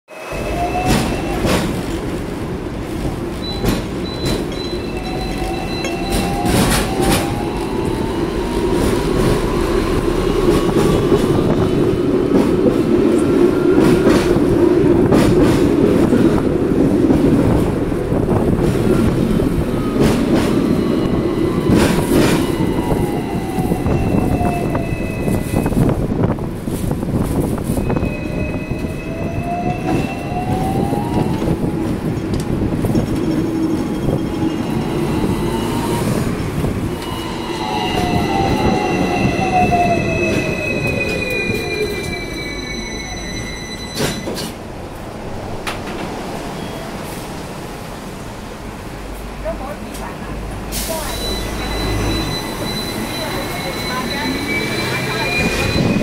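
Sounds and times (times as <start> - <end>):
tram motor whine: 0.1 - 26.4, 27.3 - 46.9, 50.9 - 56.0
tram wheels rumbling on track: 0.1 - 56.0
wheels clacking on rails: 0.4 - 47.7.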